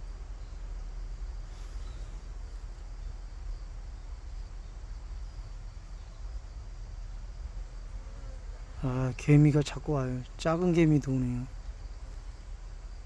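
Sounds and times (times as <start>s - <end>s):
bees buzzing faintly: 0.0s - 13.0s
low wind rumble on microphone: 0.0s - 13.0s.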